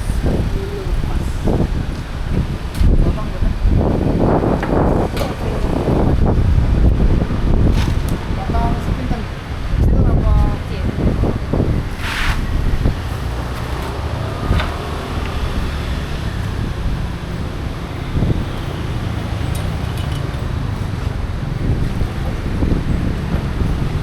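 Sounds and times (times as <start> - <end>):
steady low rumble: 0.0 - 19.4.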